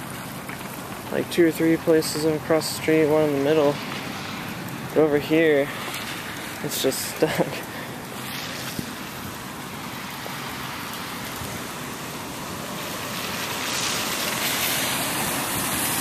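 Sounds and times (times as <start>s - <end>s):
heavy rain: 0.0s - 16.0s
water flowing over a street: 0.0s - 16.0s.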